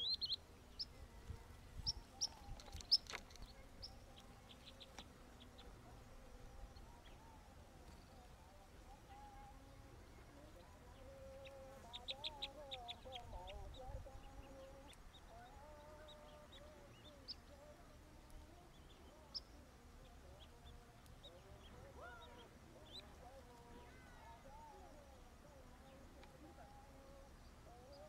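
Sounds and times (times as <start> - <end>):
lower wavering bird calls: 0.0 - 1.0, 1.8 - 28.0.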